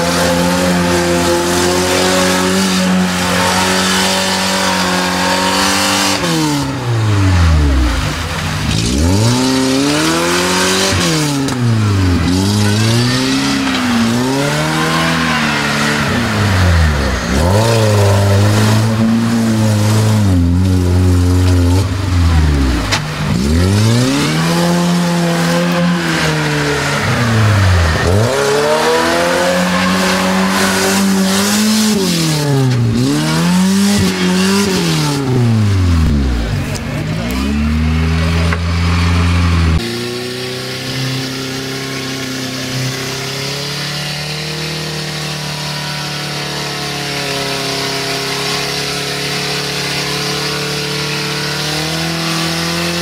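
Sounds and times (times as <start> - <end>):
car engine revving hard: 0.0 - 53.0.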